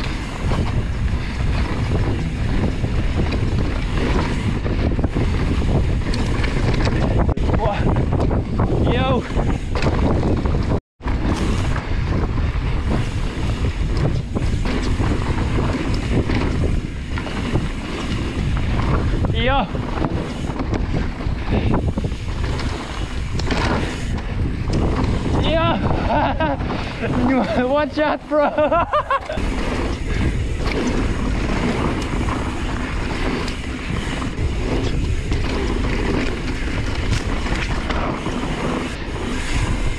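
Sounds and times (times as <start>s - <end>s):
bike rattling over bumps: 0.0s - 39.9s
tyres rolling over dirt: 0.0s - 39.9s
wind rumbling on microphone: 0.0s - 39.9s.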